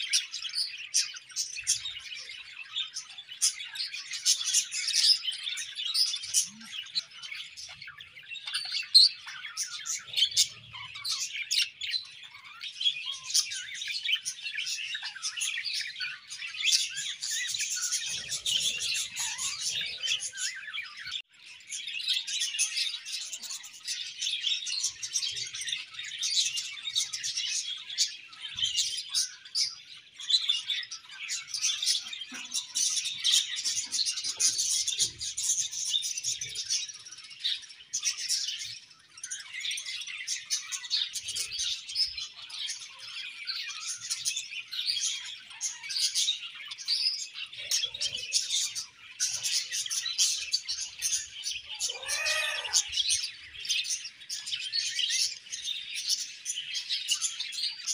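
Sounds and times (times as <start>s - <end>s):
budgerigars chirping and chattering: 0.0s - 57.9s.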